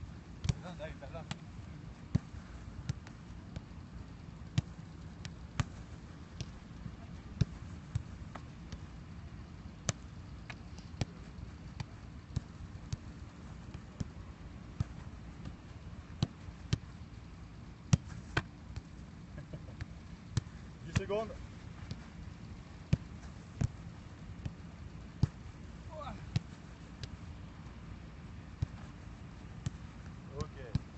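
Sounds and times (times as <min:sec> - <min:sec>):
football kicks: 0:00.0 - 0:30.9.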